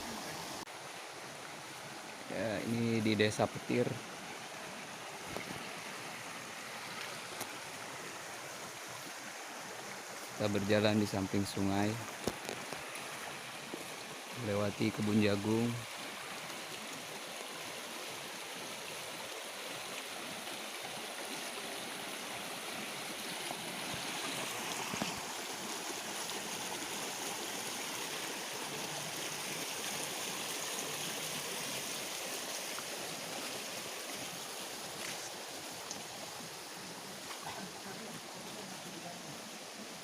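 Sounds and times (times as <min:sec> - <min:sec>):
small river rushing: 0:00.0 - 0:40.0.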